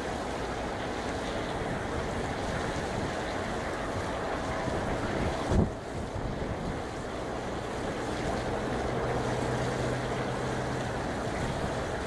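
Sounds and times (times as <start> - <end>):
distant jet engines rumbling: 1.3 - 12.0
wind buffeting microphone: 1.3 - 12.0.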